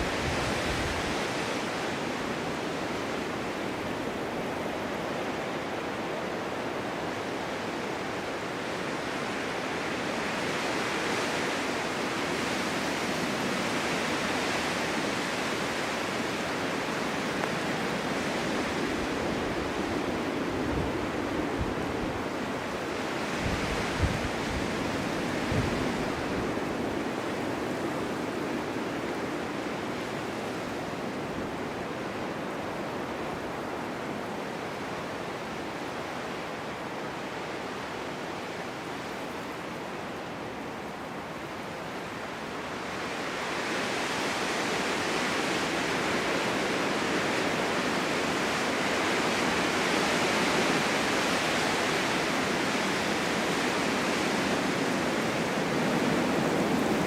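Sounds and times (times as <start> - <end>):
strong wind blowing: 0.0 - 34.3, 40.0 - 57.0.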